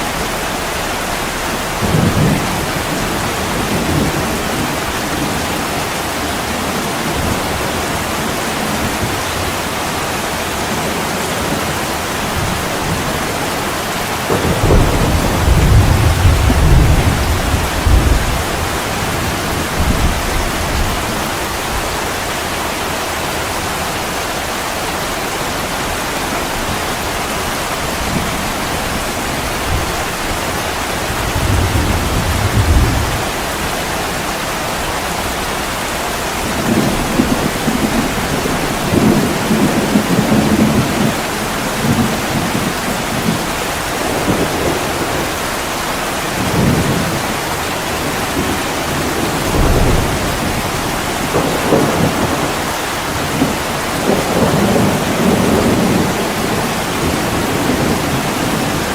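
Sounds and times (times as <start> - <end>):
heavy rain falling: 0.0 - 58.9
thunder rumbling: 0.0 - 58.9.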